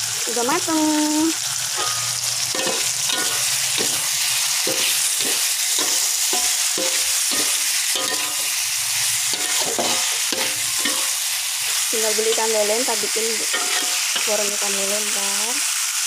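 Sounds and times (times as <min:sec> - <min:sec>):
food sizzling in a wok: 0:00.0 - 0:16.0
metal spatula scraping a pan: 0:01.6 - 0:14.6.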